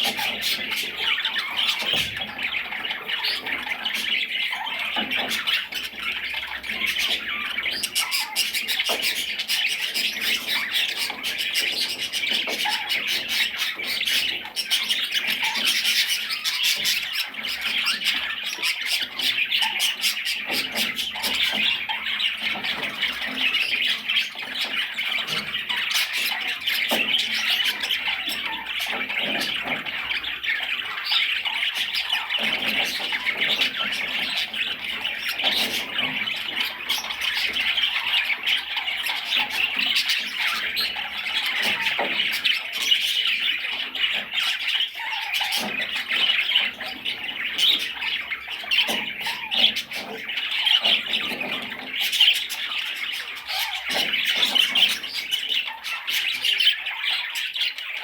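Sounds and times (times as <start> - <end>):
budgerigar chattering: 0.0 - 58.0.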